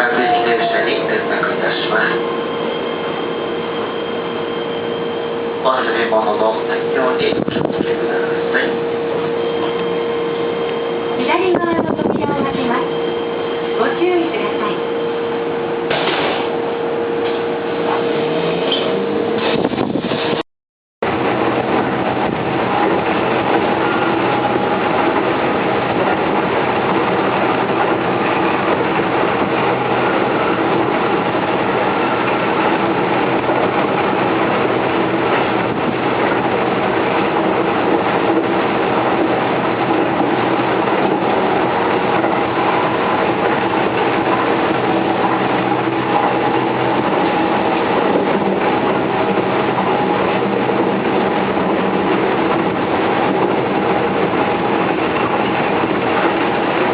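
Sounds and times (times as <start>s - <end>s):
electric train humming tones: 0.0s - 20.4s, 21.0s - 56.9s
train wheels rumbling on rail: 0.0s - 20.4s, 21.0s - 56.9s.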